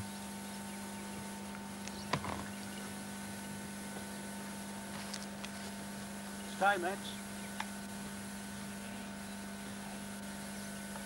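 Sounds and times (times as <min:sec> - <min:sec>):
electrical hum: 0:00.0 - 0:11.0
tape hiss: 0:00.0 - 0:11.0.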